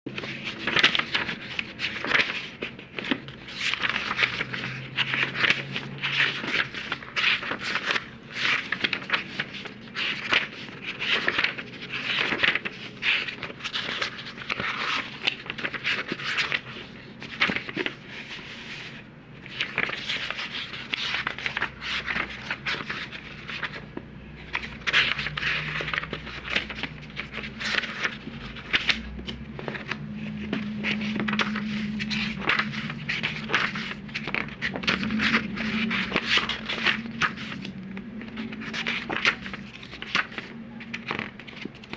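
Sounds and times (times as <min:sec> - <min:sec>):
book pages flipping: 0:00.1 - 0:41.9.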